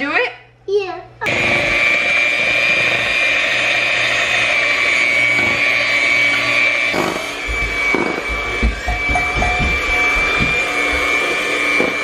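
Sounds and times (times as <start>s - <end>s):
electric mixer motor whine: 1.2s - 12.0s.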